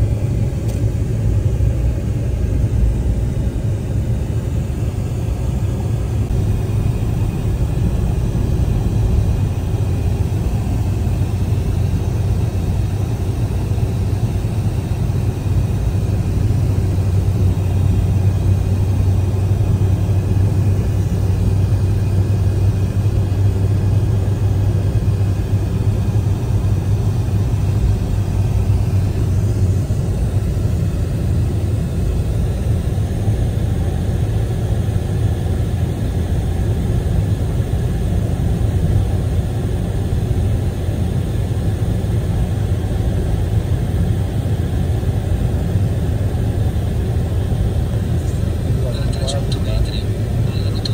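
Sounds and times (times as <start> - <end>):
car tyres and engine rumbling: 0.0 - 50.9.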